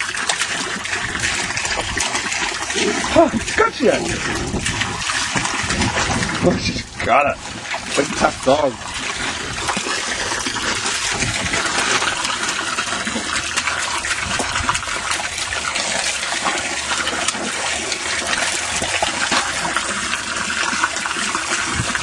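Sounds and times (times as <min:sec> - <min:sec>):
dog paws splashing water: 0:00.0 - 0:22.0
garden hose spraying water: 0:00.0 - 0:22.0.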